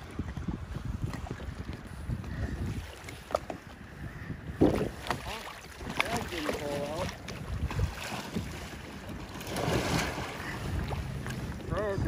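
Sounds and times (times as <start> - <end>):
water splashing and sloshing: 0.0 - 12.0
wind on microphone: 0.0 - 12.0.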